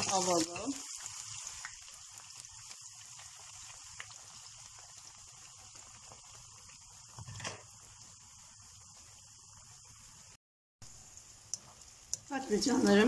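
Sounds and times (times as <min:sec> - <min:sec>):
food sizzling in frying oil: 0:00.0 - 0:13.0.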